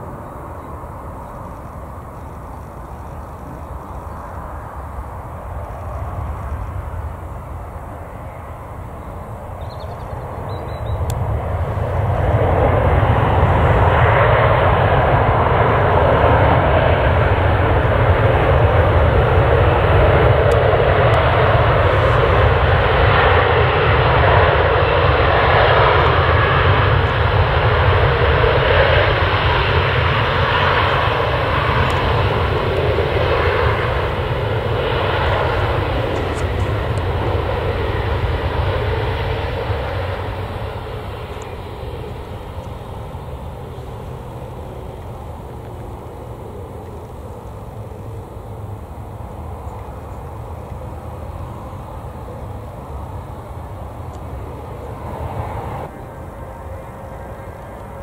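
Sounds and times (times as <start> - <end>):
jet airliner engines: 0.0 - 58.0.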